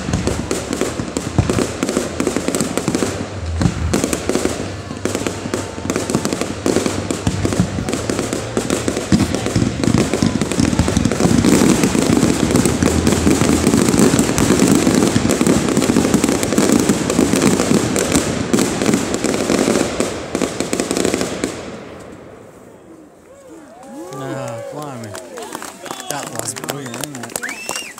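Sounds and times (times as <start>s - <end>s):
fireworks bangs and crackles: 0.0s - 23.0s, 23.8s - 27.9s.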